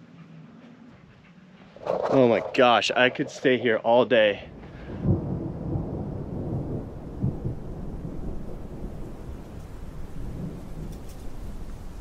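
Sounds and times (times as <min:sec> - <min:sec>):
wind buffeting microphone: 0:00.9 - 0:12.0.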